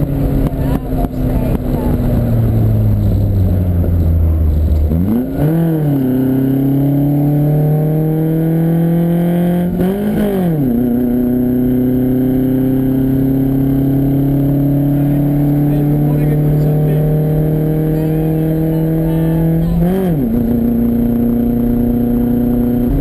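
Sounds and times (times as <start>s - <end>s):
car engine pulling under load: 0.0s - 23.0s.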